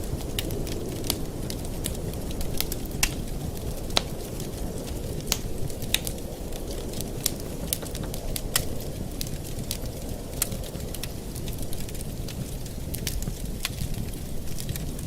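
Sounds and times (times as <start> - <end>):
fire crackles and pops: 0.0 - 15.0
rumble of fire flames: 0.0 - 15.0.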